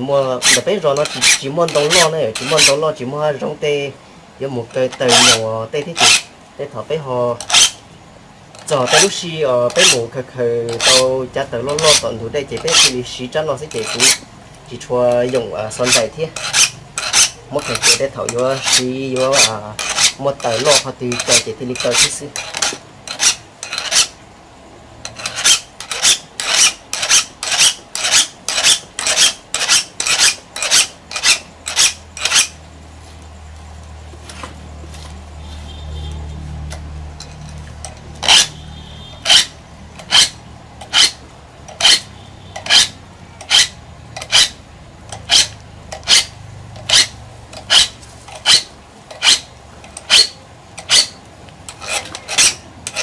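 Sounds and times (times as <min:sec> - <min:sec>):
hand file scraping saw teeth: 0:00.2 - 0:03.0, 0:04.6 - 0:06.3, 0:07.4 - 0:07.8, 0:08.6 - 0:14.3, 0:14.9 - 0:24.2, 0:25.0 - 0:32.6, 0:37.2 - 0:53.0.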